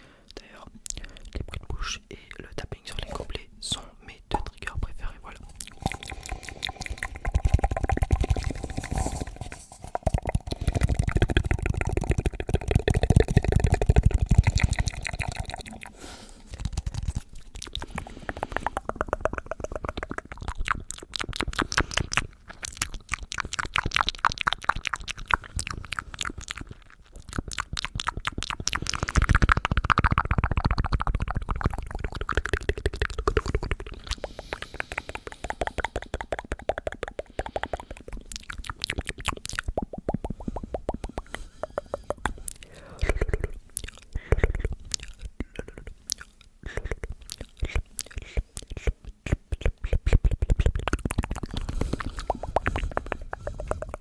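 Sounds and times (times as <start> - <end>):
wet mouth clicks and pops: 0.3 - 3.4, 4.3 - 54.0.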